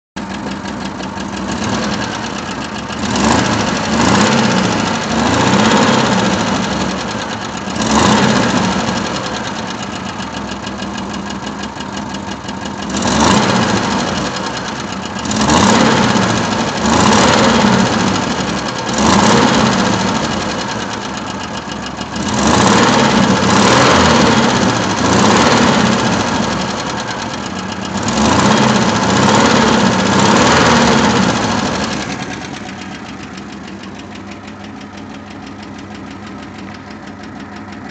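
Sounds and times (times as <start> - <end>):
engine knocking being revved: 0.2 - 37.9.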